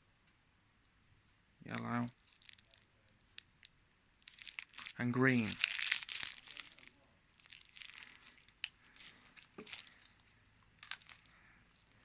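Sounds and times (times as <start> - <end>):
plastic wrapper crinkling and tearing: 2.1 - 12.0.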